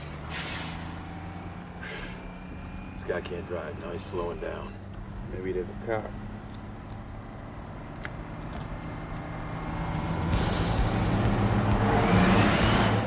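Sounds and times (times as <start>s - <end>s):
heavy truck engine running: 0.0s - 2.9s, 4.7s - 13.0s
road noise rush: 0.0s - 13.0s.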